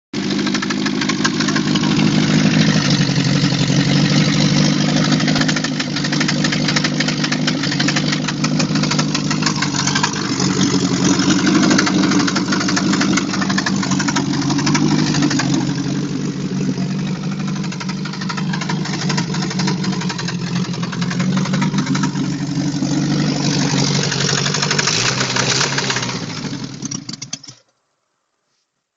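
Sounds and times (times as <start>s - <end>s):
car engine idling: 0.2s - 27.6s
rapid engine knock: 0.2s - 27.6s.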